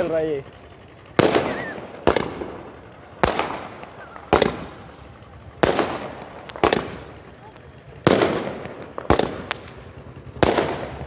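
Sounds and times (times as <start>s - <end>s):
firework bangs: 1.1s - 11.0s.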